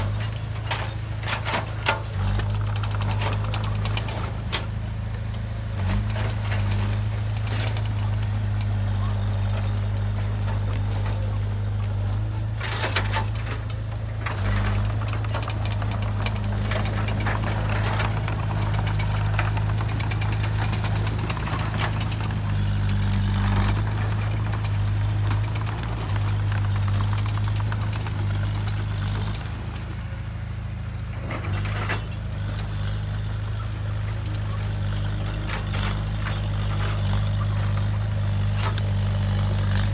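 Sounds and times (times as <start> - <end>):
diesel machinery engine hum: 0.0 - 39.9.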